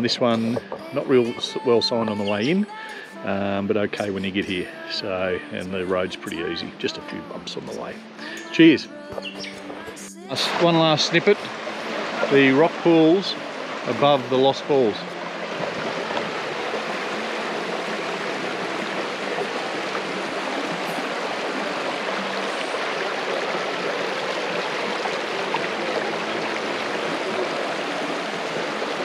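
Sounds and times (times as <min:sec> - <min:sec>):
creek water running over rocks: 0:00.0 - 0:29.0.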